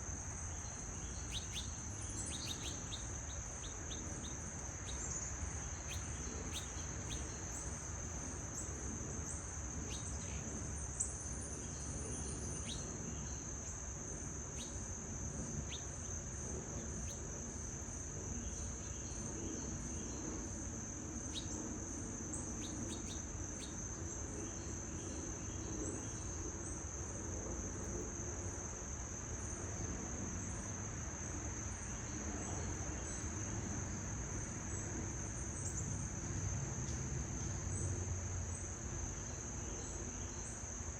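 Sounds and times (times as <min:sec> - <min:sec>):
high-pitched insect trill: 0:00.0 - 0:40.9.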